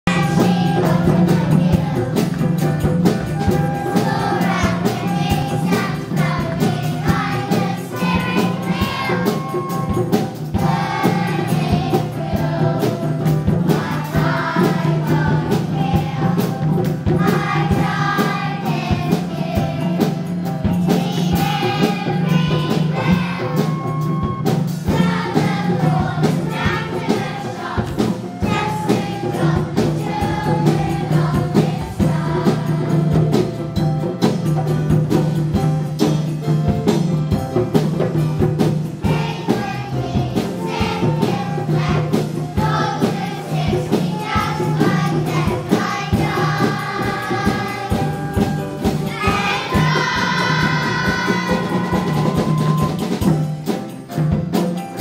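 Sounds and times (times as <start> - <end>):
instrumental accompaniment with beat: 0.0 - 55.0
children's choir singing: 0.1 - 33.8, 38.8 - 53.4.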